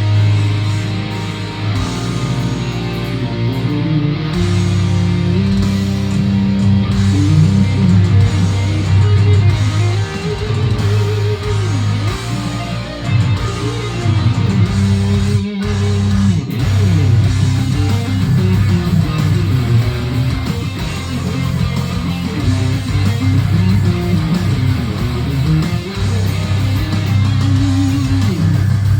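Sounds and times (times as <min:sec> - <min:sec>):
heavy metal electric guitar: 0:00.0 - 0:28.9
low bass notes: 0:00.0 - 0:28.9.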